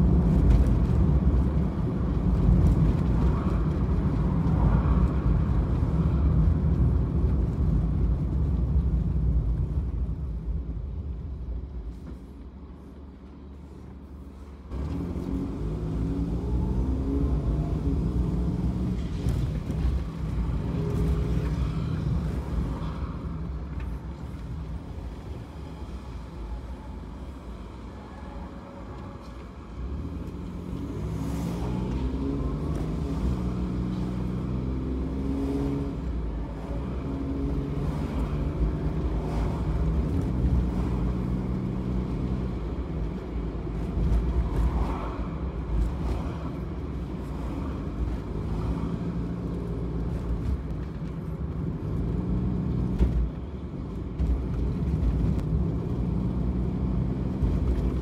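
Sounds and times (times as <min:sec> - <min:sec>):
road noise: 0:00.0 - 0:58.0
van engine from inside cabin: 0:00.0 - 0:58.0.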